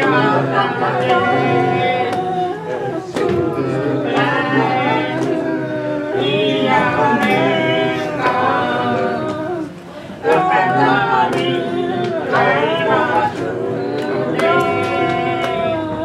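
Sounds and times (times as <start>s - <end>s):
voices singing worship song: 0.0s - 16.0s.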